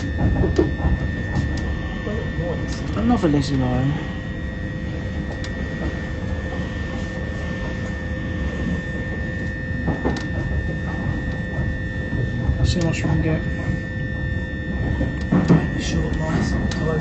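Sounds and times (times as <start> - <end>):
high train whine: 0.0 - 17.0
train rumble inside carriage: 0.0 - 17.0.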